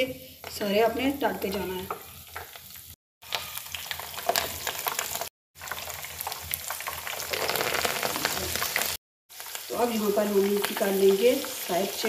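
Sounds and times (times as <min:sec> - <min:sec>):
deep-frying in hot oil: 0:00.0 - 0:12.0.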